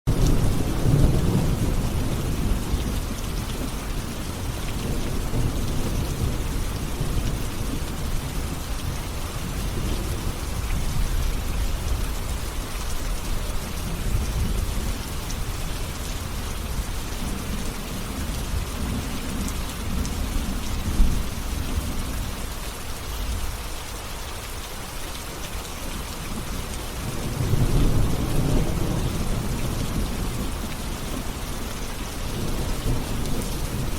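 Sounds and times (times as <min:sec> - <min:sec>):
thunder rumbling: 0:00.1 - 0:22.5, 0:26.1 - 0:33.9
rain falling: 0:00.1 - 0:33.9.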